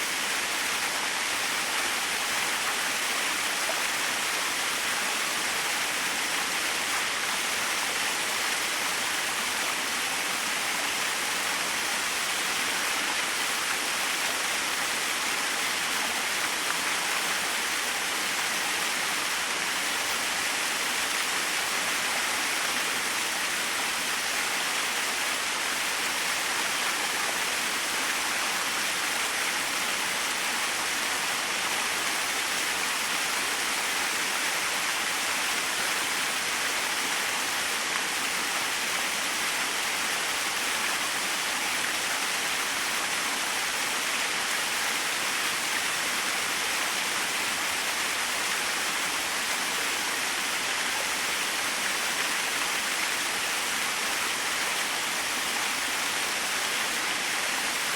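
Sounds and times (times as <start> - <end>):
small waterfall splashing: 0.0 - 57.9.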